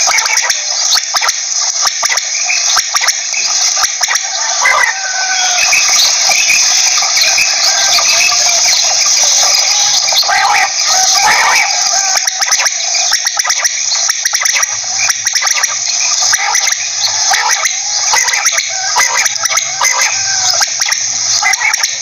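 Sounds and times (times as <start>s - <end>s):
quail calling: 0.0s - 22.0s.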